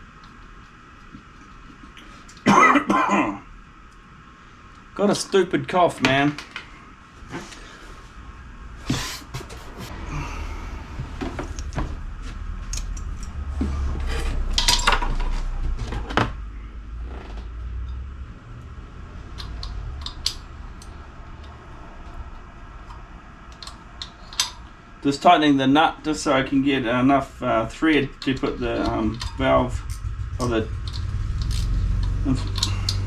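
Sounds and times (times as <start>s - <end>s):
low rumble of handling noise: 6.1s - 33.0s.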